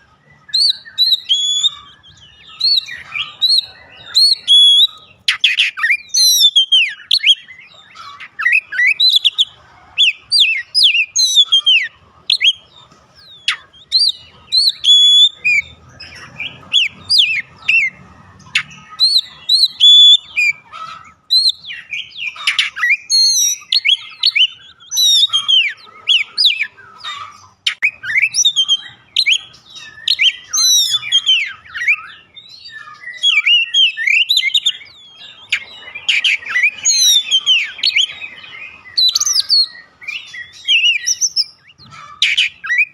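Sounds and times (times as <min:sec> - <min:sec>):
bird singing whistled phrases: 0:00.0 - 0:18.0, 0:18.6 - 0:20.6, 0:21.3 - 0:42.9.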